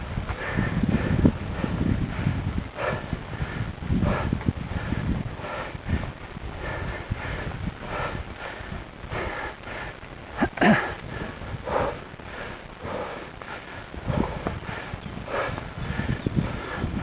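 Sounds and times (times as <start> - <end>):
cyclist breathing hard: 0.0 - 17.0
wind rumble on microphone: 0.0 - 17.0.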